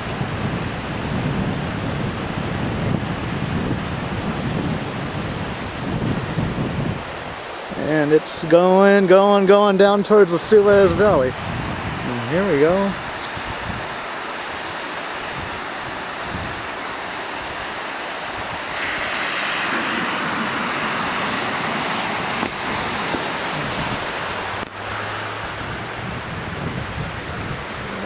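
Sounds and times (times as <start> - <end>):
wind on microphone: 0.0 - 8.0, 10.5 - 28.0
floodwater rushing: 0.0 - 28.0.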